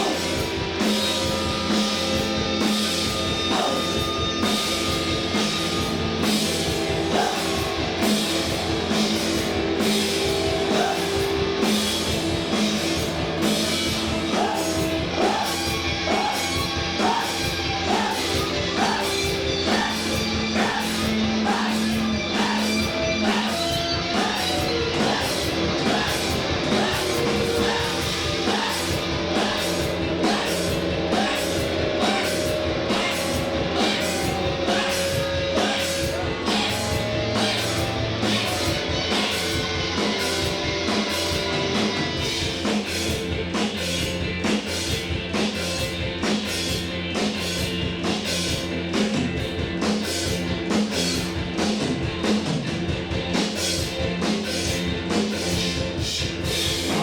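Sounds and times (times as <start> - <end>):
drum kit beat: 0.0 - 57.0.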